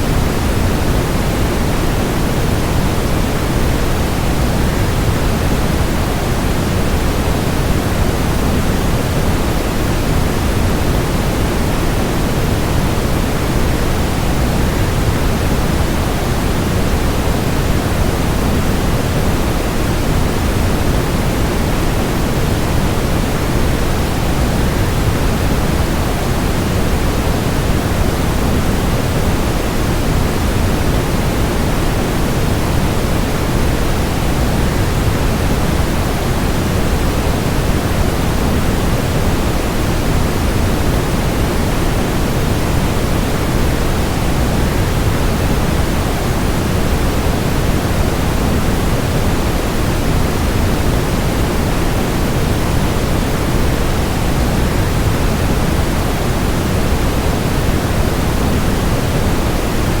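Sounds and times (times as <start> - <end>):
white noise: 0.0 - 60.0.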